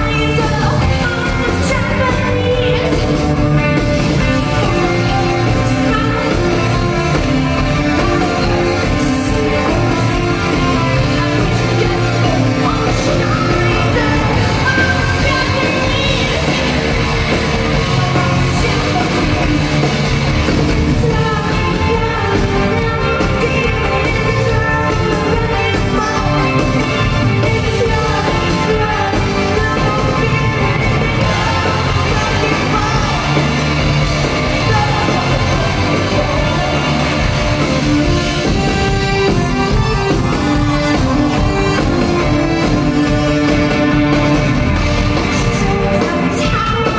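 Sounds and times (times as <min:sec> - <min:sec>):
lead singer singing: 0:00.0 - 0:46.9
live rock band playing: 0:00.0 - 0:46.9.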